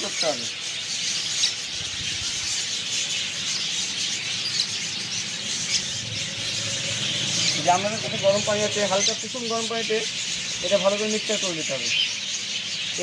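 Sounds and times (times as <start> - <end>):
sharp bird calls: 0.0 - 13.0
small birds chirping: 0.0 - 13.0.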